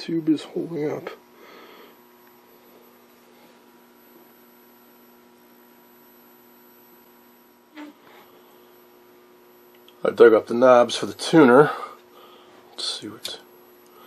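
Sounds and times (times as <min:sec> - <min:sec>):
faint mains hum: 0:00.0 - 0:14.0.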